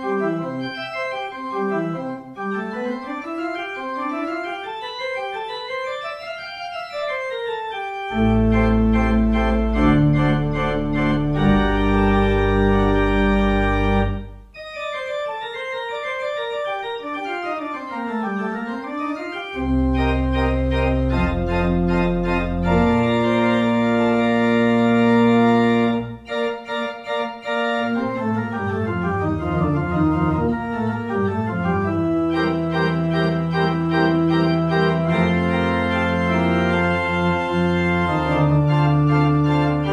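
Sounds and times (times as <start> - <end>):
church pipe organ playing: 0.0 - 39.9.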